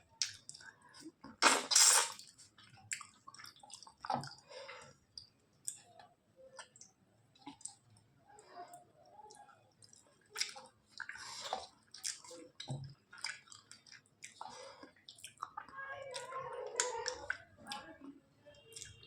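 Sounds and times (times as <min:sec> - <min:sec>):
person chewing with wet mouth sounds: 0:00.0 - 0:19.0.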